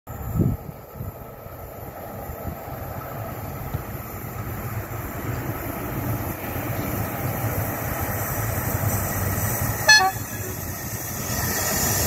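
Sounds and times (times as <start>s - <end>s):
electric locomotive rumble: 0.1s - 12.0s.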